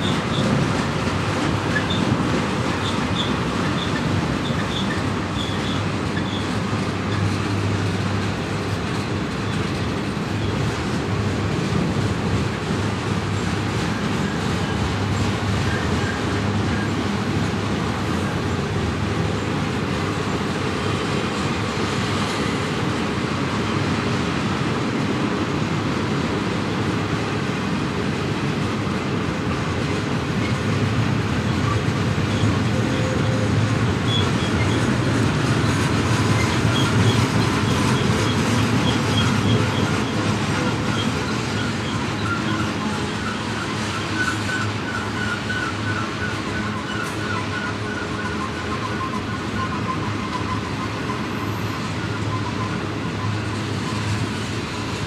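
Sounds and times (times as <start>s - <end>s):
high wheel squeaks: 0.0s - 10.7s, 13.5s - 24.6s, 29.8s - 55.0s
freight cars rumbling and rattling: 0.0s - 55.0s.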